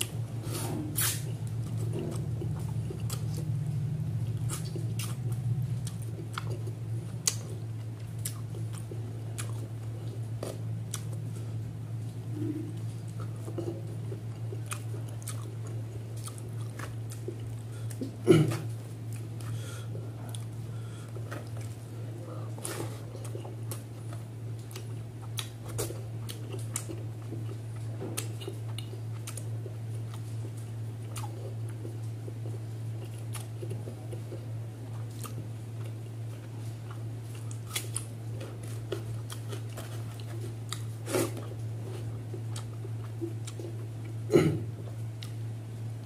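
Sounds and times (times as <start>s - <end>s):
steady low hum: 0.0s - 46.0s
wet chewing and lip smacks: 1.0s - 3.6s, 4.2s - 11.2s, 12.0s - 18.1s, 22.6s - 44.2s, 45.2s - 45.4s.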